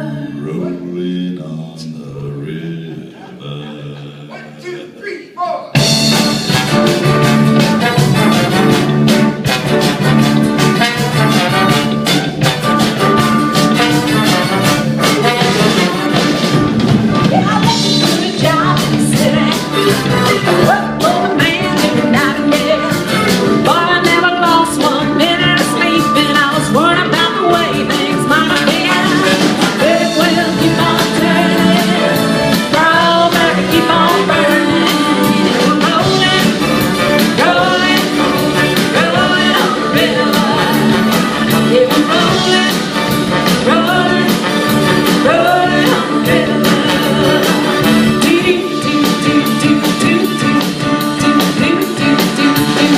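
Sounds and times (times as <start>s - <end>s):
live band playing rock: 5.7s - 52.9s.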